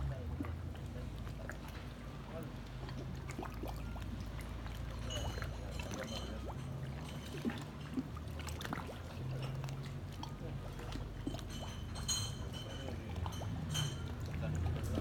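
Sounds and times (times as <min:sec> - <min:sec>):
water lapping against boat hulls: 0:00.0 - 0:15.0.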